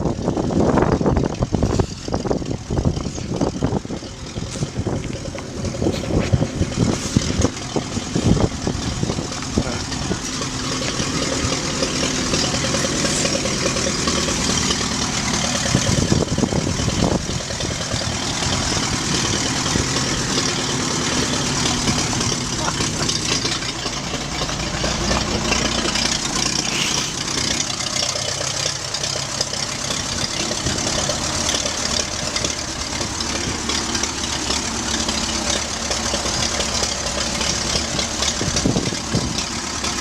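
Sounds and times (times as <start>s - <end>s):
engine knocks and clatter: 0.0s - 40.0s
tractor engine running: 0.0s - 40.0s.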